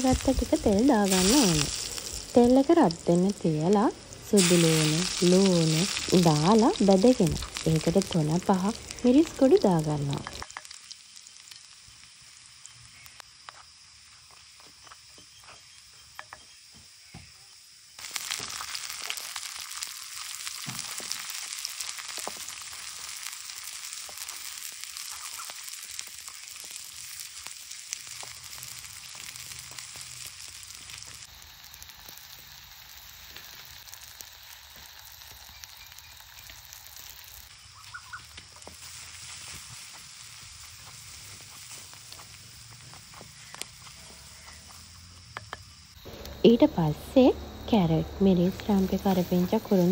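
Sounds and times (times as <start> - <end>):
onions sizzling in hot oil: 0.0 - 49.9.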